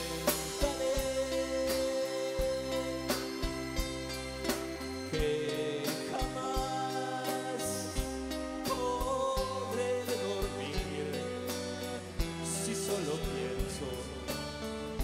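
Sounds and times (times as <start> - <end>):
live band playing slow ballad: 0.0 - 15.0.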